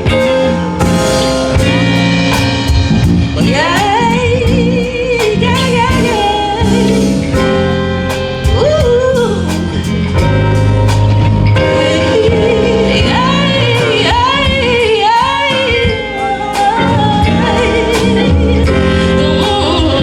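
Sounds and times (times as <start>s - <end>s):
band playing: 0.0s - 20.0s.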